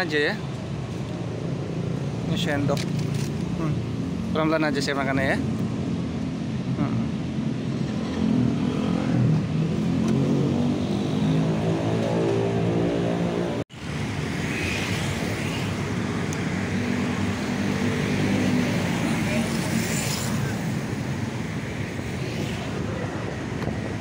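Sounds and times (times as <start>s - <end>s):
hum of passing traffic: 0.0s - 24.0s.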